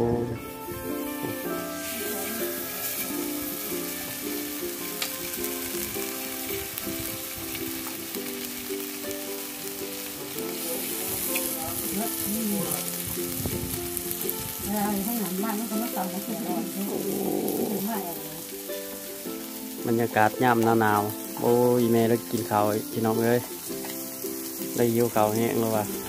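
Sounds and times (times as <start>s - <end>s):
background music with melody: 0.0s - 26.0s
meat sizzling on a grill: 0.3s - 26.0s.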